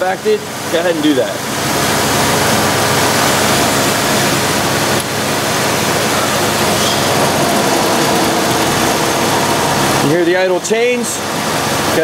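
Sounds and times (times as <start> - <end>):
car engine idling: 1.4 - 12.0.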